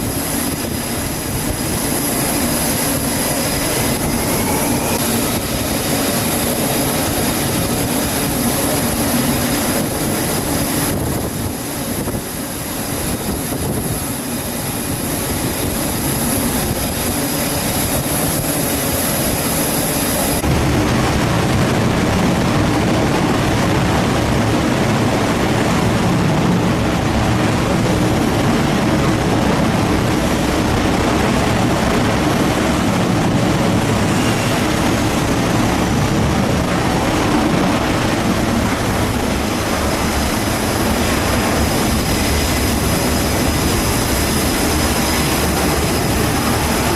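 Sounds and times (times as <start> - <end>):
jet engine roar: 0.0 - 46.9
jet engine whine: 0.0 - 46.9.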